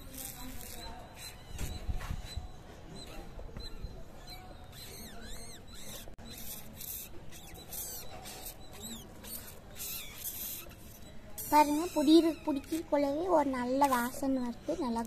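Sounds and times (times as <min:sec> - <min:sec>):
high squeaky chirps: 0:00.0 - 0:15.0.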